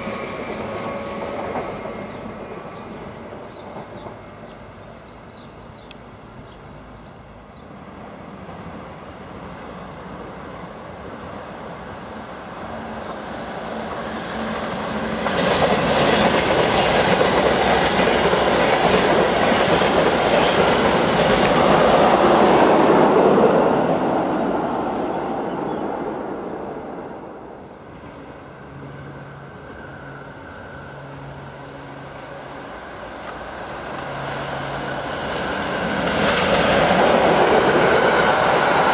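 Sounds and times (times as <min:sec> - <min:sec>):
train wheels rumbling on rails: 0:00.0 - 0:08.9, 0:11.7 - 0:26.5, 0:31.0 - 0:38.9.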